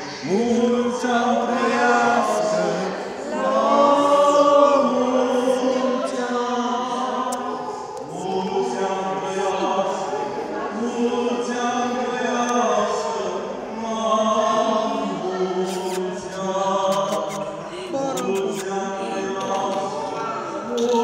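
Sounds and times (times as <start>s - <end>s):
choir singing a chant: 0.0s - 21.0s.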